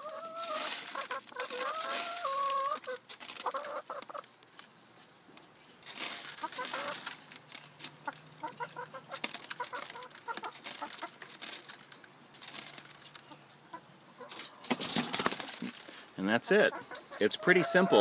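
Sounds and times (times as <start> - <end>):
chickens clucking: 0.0 - 4.4, 5.0 - 18.0.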